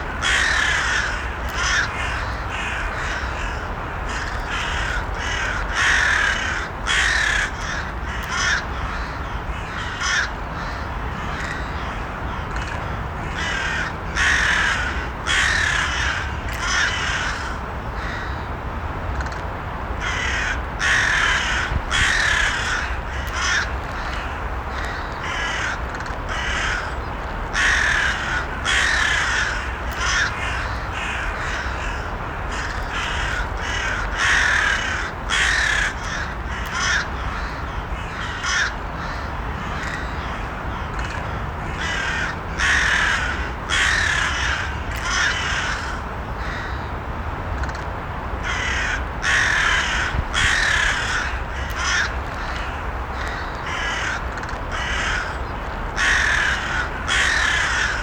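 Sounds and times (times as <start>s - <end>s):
crows cawing: 0.1s - 18.5s, 20.0s - 46.9s, 48.4s - 58.0s.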